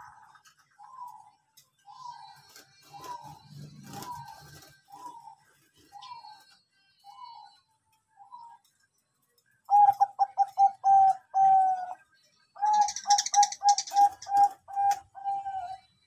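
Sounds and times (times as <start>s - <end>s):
dove cooing: 0.0s - 7.6s, 9.7s - 12.0s, 12.6s - 16.0s.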